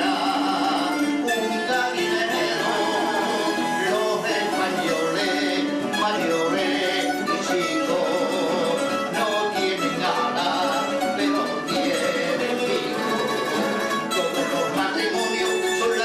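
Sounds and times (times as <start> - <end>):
plucked string trio playing: 0.0 - 16.0.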